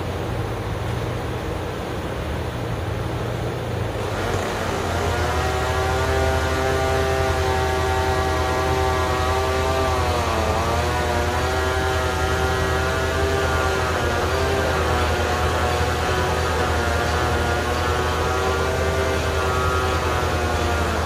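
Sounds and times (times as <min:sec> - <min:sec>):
chainsaw engine revving: 0:03.9 - 0:21.0
chain cutting wood: 0:04.0 - 0:21.0.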